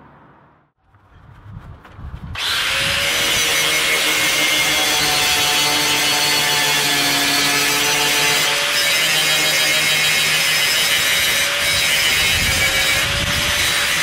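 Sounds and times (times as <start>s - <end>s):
angle grinder grinding steel: 2.4s - 14.0s.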